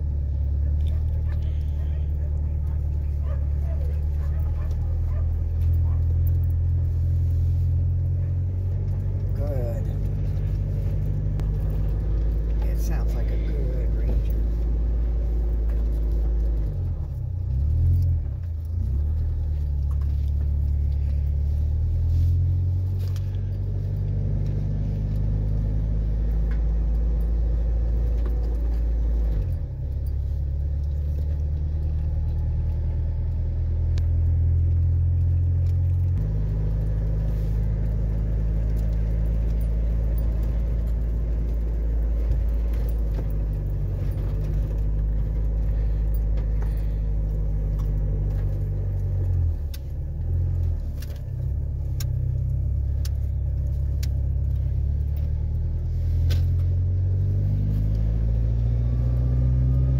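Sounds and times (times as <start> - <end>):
truck engine from inside cab: 0.0 - 59.9.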